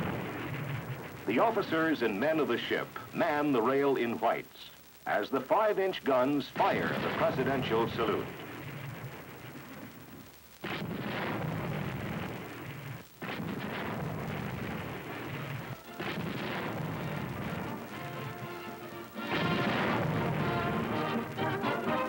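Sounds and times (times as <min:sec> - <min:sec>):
guns firing booming reports: 0:00.0 - 0:22.0.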